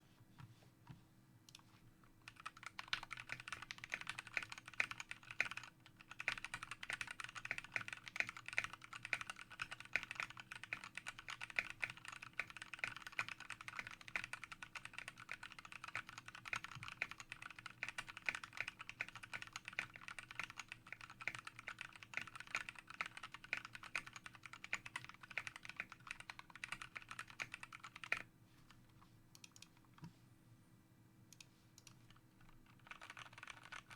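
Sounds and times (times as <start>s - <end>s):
fast typing on mechanical keyboard: 2.2s - 28.3s, 32.1s - 33.9s.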